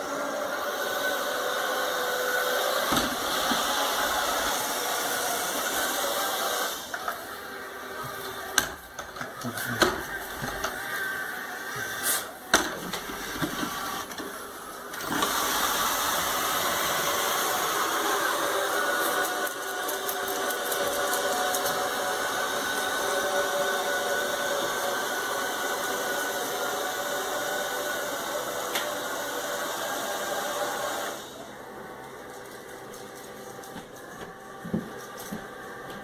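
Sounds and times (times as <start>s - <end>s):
robot vacuum motor whine: 0.0s - 32.2s.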